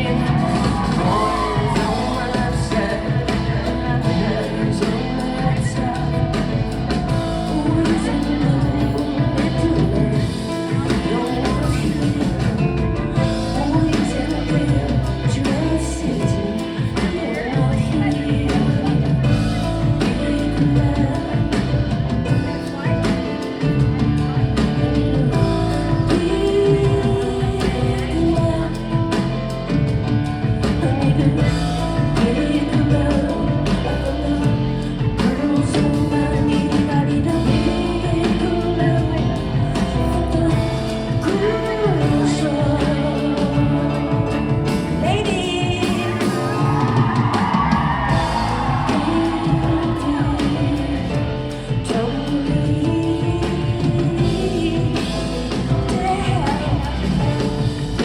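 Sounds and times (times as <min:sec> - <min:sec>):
keyboards bass and drums: 0:00.0 - 0:58.0
woman singing: 0:00.0 - 0:58.0.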